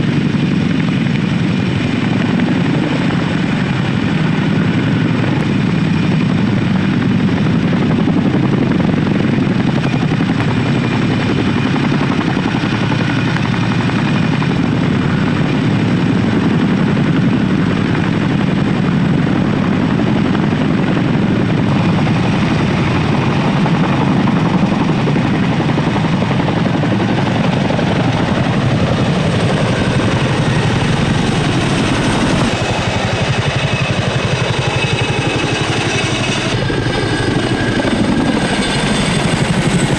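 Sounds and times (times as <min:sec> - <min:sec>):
helicopter rotors beating: 0:00.0 - 0:39.9
high turbine whine: 0:00.0 - 0:39.9.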